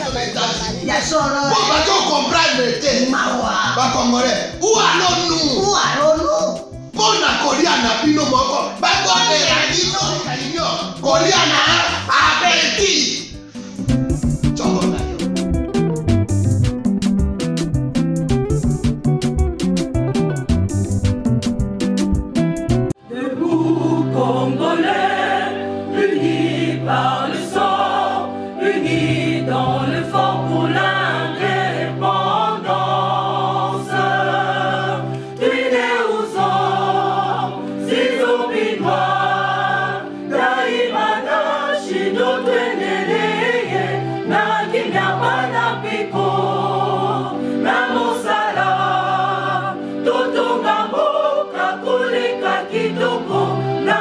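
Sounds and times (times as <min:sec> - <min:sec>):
gospel choir with backing band: 0:00.0 - 0:15.4, 0:23.1 - 0:54.0.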